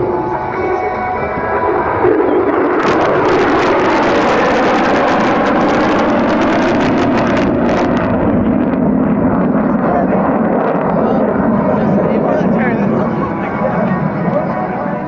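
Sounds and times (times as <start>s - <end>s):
loud jet engine noise: 0.0s - 15.0s.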